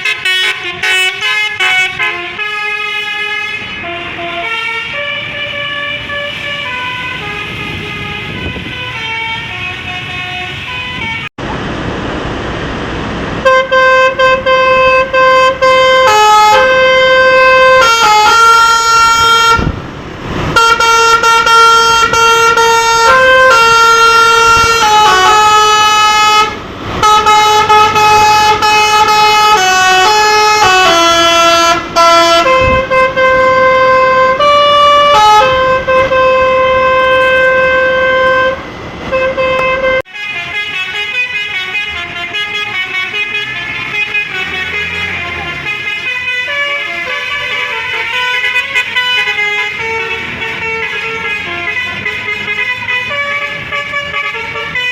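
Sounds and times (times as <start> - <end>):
multi-tone musical horn tune: 0.0 - 11.3, 13.4 - 19.7, 20.6 - 54.9.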